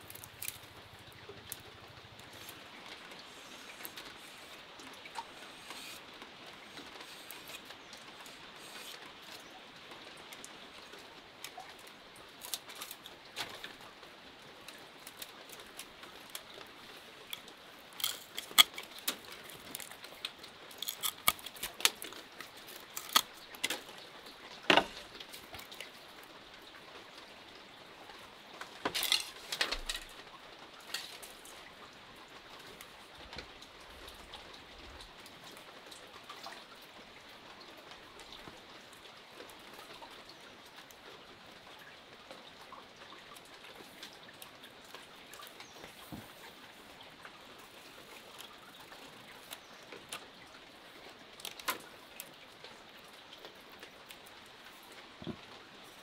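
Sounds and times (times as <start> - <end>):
bamboo strips clicking and rustling: 0.0 - 26.5, 28.0 - 36.6, 43.0 - 56.0
steady rain: 0.0 - 56.0.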